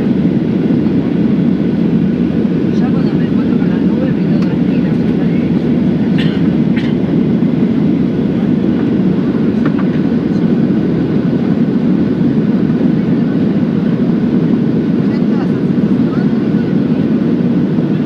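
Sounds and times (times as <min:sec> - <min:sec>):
airliner cabin engine noise: 0:00.0 - 0:18.0.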